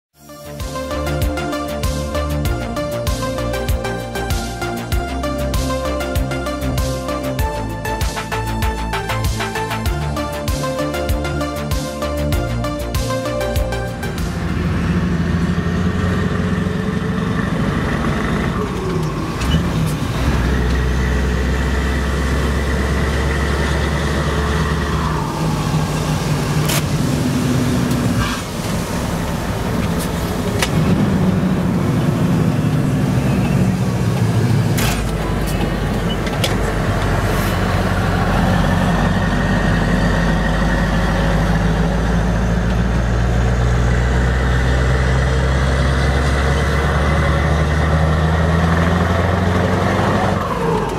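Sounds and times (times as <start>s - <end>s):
truck engine deep rumble: 0.3s - 50.9s.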